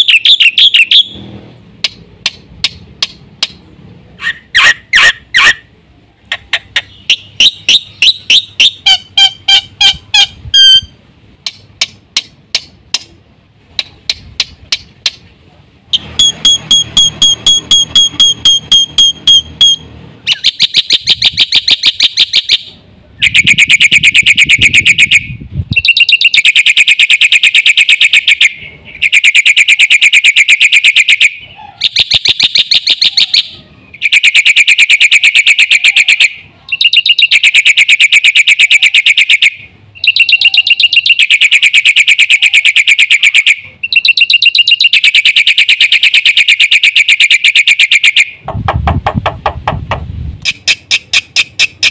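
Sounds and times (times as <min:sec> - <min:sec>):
bird harsh chattering calls: 0:04.2 - 0:13.1, 0:15.9 - 0:48.3, 0:50.4 - 0:51.9.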